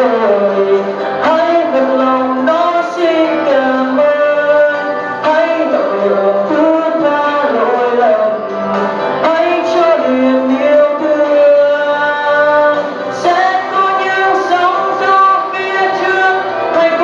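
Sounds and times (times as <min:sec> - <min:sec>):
instrumental backing track: 0:00.0 - 0:17.0
person singing pop song: 0:00.0 - 0:17.0.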